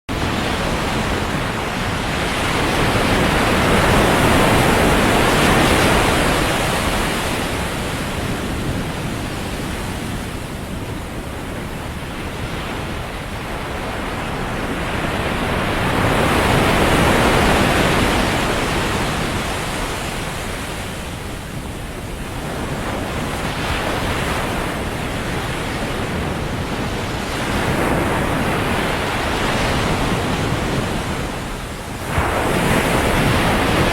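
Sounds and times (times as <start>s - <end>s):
ocean waves breaking on sand: 0.1s - 33.9s.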